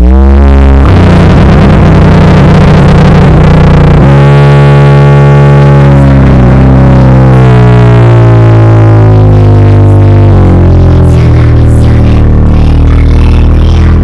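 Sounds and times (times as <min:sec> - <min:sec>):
heavily distorted chords music: 0:00.0 - 0:14.0.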